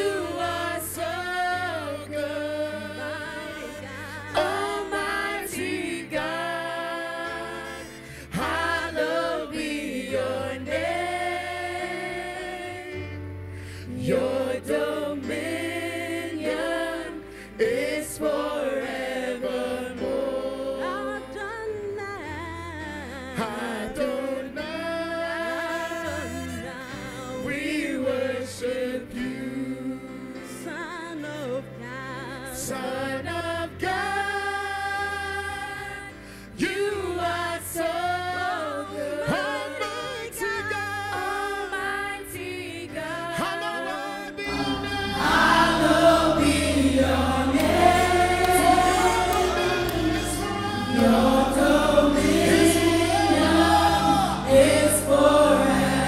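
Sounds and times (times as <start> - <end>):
people singing gospel: 0.0 - 56.0.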